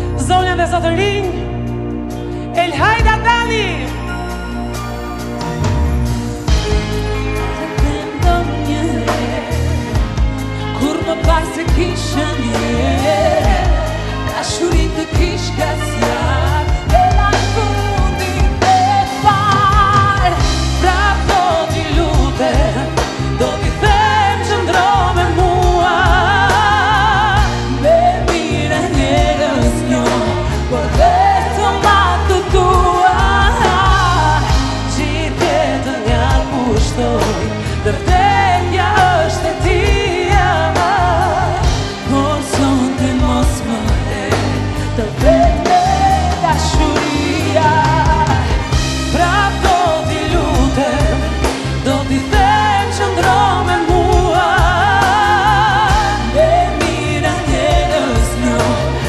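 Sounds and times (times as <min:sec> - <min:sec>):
live band playing: 0:00.0 - 0:59.0
backing singers: 0:05.5 - 0:59.0
two women singing duet: 0:07.4 - 0:59.0.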